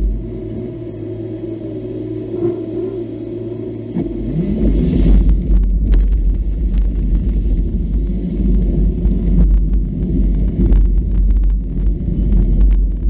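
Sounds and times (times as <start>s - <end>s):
off-road vehicle engine rumbling: 0.0s - 13.0s.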